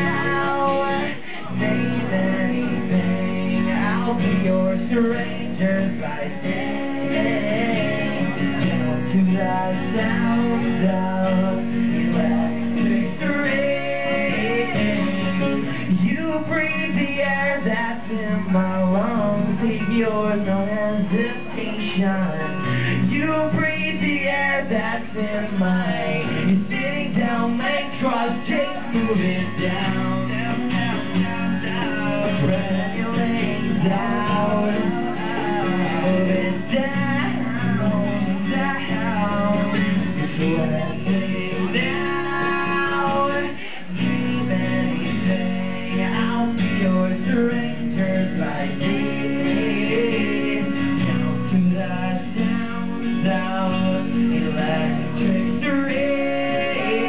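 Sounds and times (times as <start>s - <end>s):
man singing: 0.0s - 57.0s
strummed acoustic guitar: 0.0s - 57.0s.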